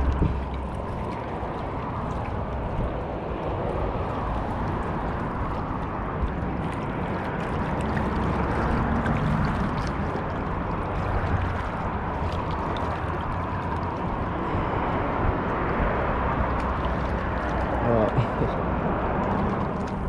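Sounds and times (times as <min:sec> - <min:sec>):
water lapping among rocks: 0:00.0 - 0:14.6, 0:15.5 - 0:20.0
low rumble: 0:00.0 - 0:20.0.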